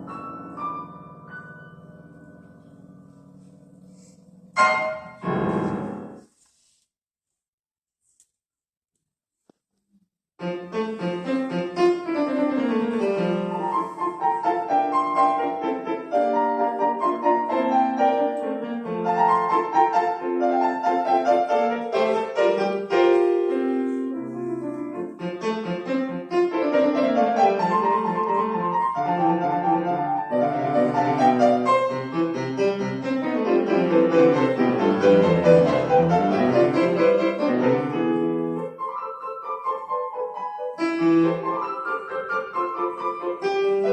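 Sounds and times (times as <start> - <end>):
solo classical piano: 0.0 - 6.8, 10.4 - 43.9.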